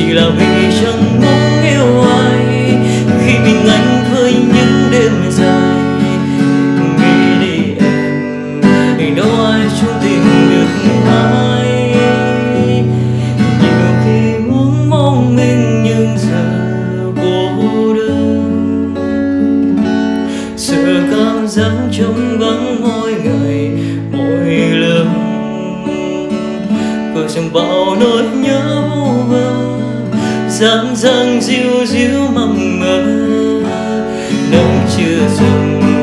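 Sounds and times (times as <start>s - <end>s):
acoustic guitar strumming: 0.0s - 36.0s
man singing a slow ballad: 0.0s - 36.0s.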